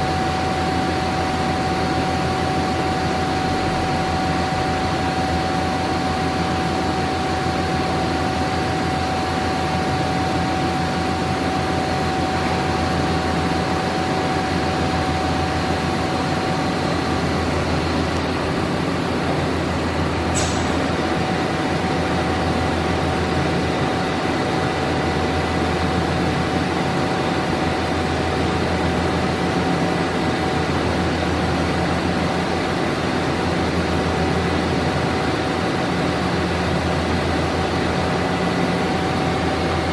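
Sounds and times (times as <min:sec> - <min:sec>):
industrial machinery humming: 0:00.0 - 0:39.9.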